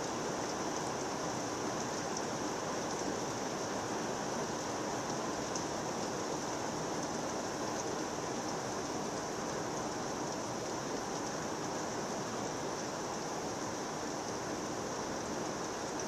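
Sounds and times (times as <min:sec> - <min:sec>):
heavy rain through trees: 0:00.0 - 0:16.0.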